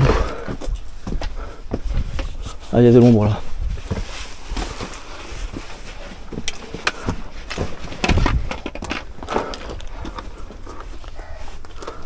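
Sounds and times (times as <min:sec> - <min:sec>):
footsteps on stony ground: 0:00.0 - 0:12.0.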